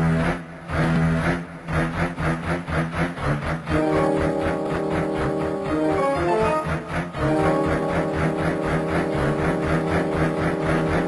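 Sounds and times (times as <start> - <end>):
background music with pulsing bass: 0.0 - 11.0.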